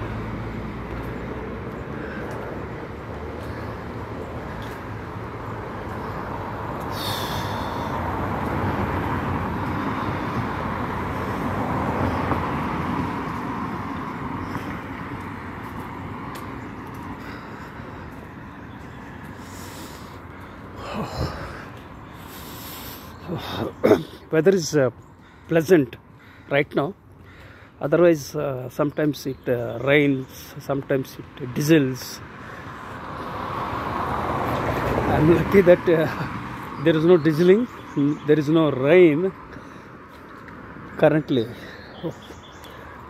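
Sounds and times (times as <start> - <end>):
passing vehicle engine: 0.0 - 23.8, 31.2 - 43.0.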